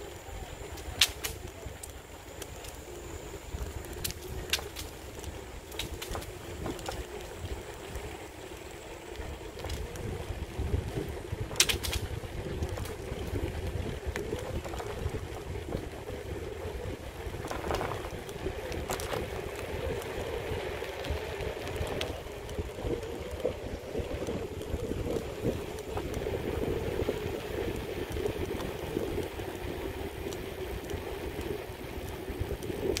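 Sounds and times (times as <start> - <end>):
bike rolling on pavement: 0.0 - 33.0
wind buffeting microphone: 0.0 - 33.0.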